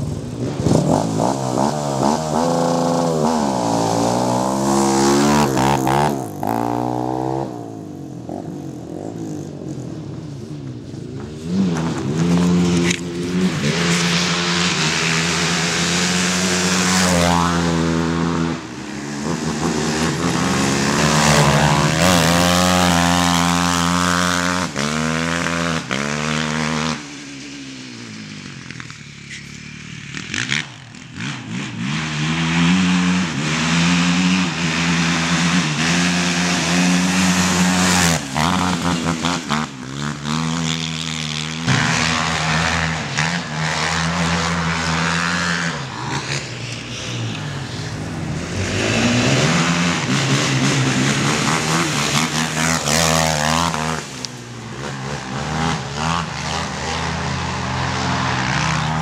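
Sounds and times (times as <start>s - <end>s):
quad engines revving: 0.0s - 59.0s.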